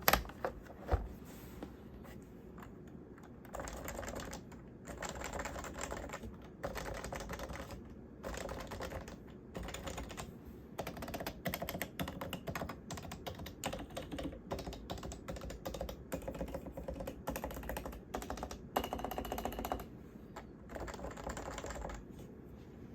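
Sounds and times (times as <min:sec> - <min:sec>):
keyboard typing: 0:00.0 - 0:01.0, 0:02.6 - 0:22.1.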